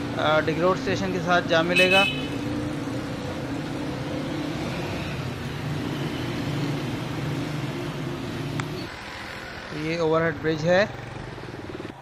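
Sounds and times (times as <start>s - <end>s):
motorcycles driving past: 0.0s - 12.0s
traffic engine drone: 0.0s - 12.0s
auto-rickshaw driving past: 2.4s - 12.0s.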